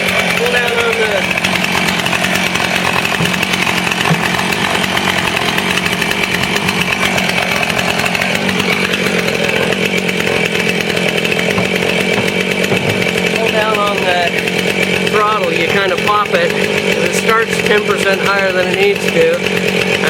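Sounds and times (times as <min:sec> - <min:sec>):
chainsaw engine fast idle: 0:00.0 - 0:20.0.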